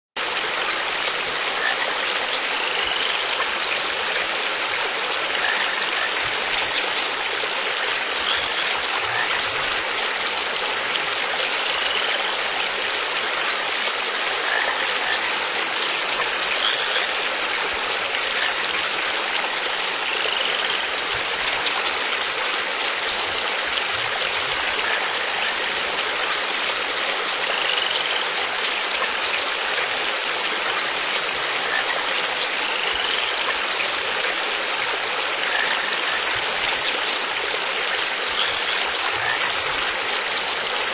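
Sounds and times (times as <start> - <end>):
running water: 0.2 - 40.9.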